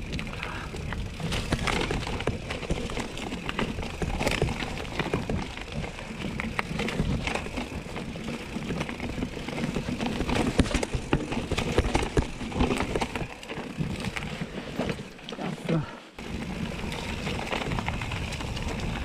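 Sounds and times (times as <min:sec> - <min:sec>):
mountain bike rattling: 0:00.0 - 0:19.0.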